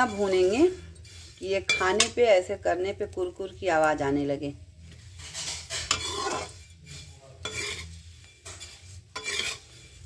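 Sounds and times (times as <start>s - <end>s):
metal spatula scraping metal pan: 0.0s - 10.0s.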